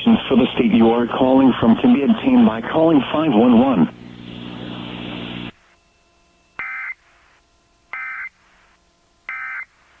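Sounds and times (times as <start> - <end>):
steady hum with hiss: 0.0 - 10.0.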